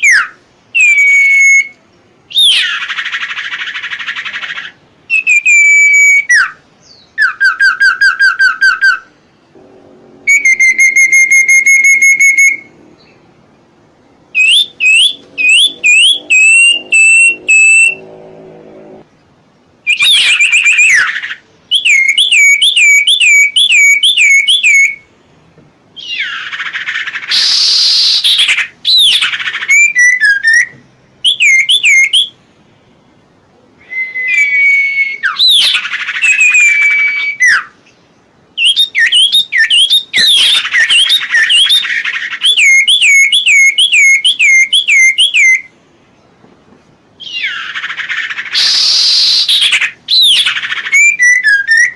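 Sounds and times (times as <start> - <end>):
songbird singing whistles: 0.0 - 9.1, 10.3 - 13.2, 14.3 - 18.2, 19.8 - 25.1, 26.0 - 32.4, 33.8 - 38.0, 38.6 - 45.7, 47.2 - 51.9
harsh bird call: 0.0 - 19.1, 19.9 - 25.1, 26.0 - 32.5, 33.8 - 37.8, 38.6 - 45.8, 47.2 - 51.9.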